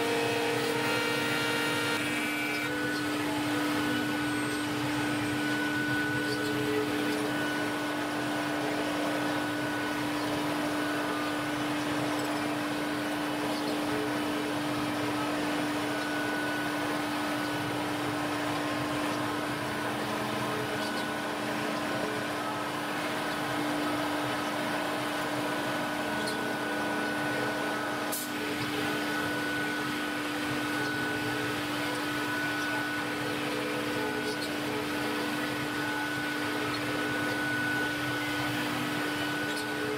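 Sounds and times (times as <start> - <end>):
suction equipment droning: 0.0 - 39.9.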